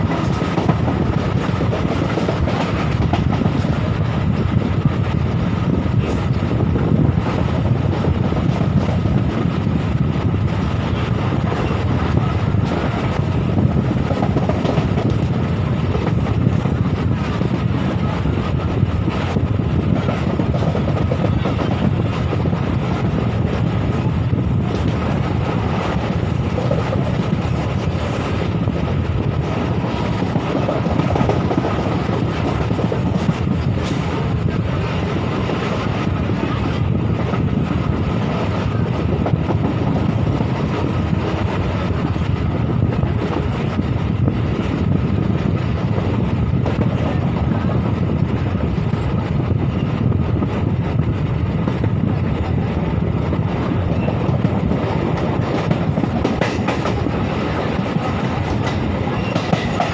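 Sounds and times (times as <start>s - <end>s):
train wheel clack: 0.0s - 59.9s
train wheels rumbling on rails: 0.0s - 59.9s.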